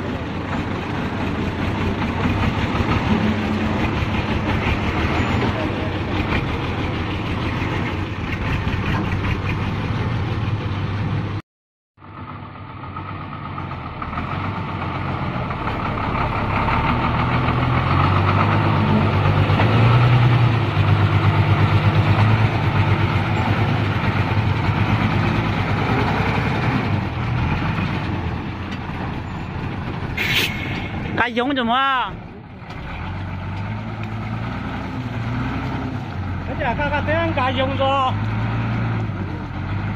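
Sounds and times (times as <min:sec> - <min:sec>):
diesel truck engine running: 0:00.0 - 0:11.4, 0:12.0 - 0:39.9.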